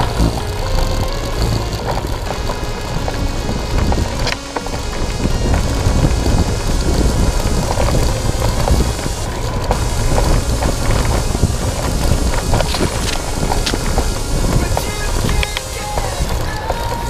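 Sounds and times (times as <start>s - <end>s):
bike rattling: 0.0s - 17.0s
bike tyres on gravel: 0.0s - 17.0s
wind on microphone: 0.0s - 17.0s.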